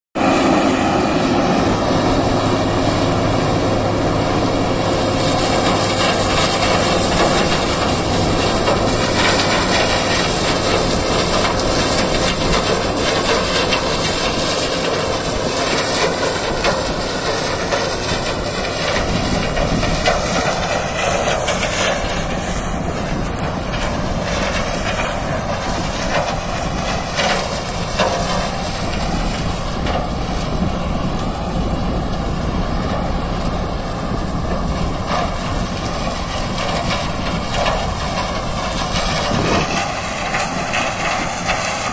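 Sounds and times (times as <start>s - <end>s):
harvester diesel engine and machinery: 0.2s - 41.9s.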